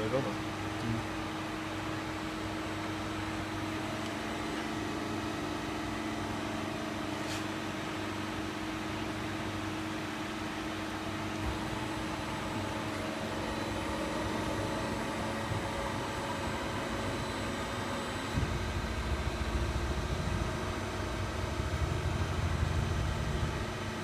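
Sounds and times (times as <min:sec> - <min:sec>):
cnc machine humming: 0:00.0 - 0:24.0.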